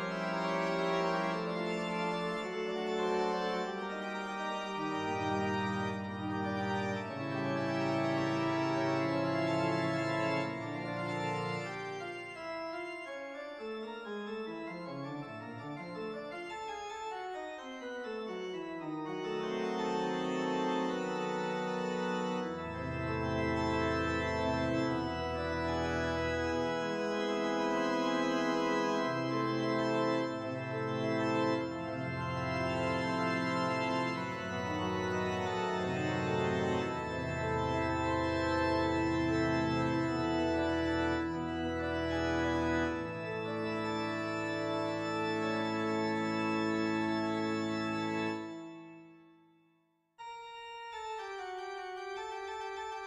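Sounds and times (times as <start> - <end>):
low organ bass notes: 0.0 - 17.0, 18.0 - 48.8
organ chords: 0.0 - 49.5, 50.2 - 53.0.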